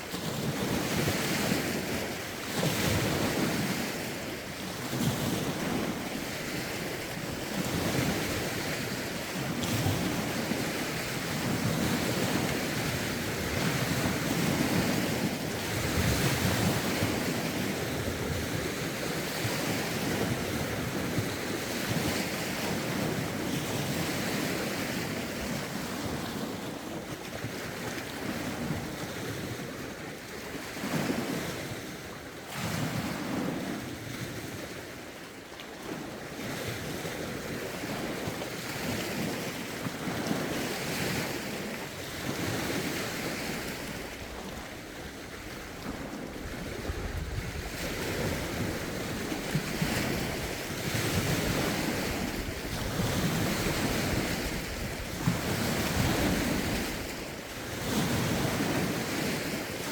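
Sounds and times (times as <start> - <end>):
wind rumble on microphone: 0.0 - 35.1, 35.8 - 59.9
waves breaking on shore: 0.0 - 59.9.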